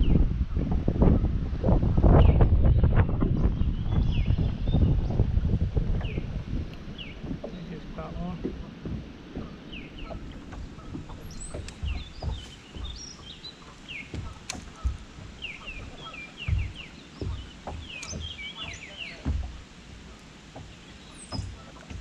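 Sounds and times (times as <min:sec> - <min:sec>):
low thumps and rumbles: 0:00.0 - 0:22.0
songbirds chirping: 0:02.0 - 0:22.0.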